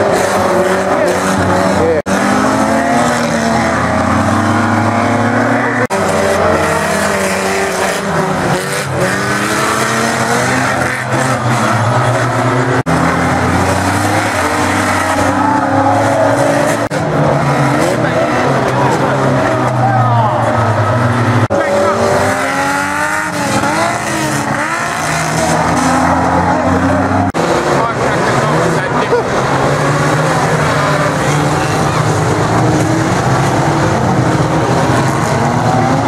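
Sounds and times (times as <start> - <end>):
race car engines revving: 0.0 - 36.0.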